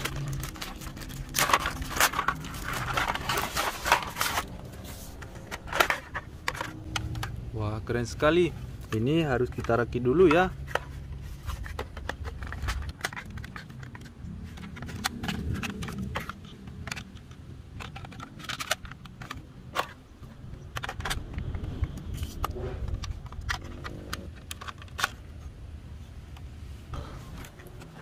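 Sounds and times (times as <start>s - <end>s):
plastic parts clicking and rattling: 0.0s - 25.5s, 26.3s - 28.0s.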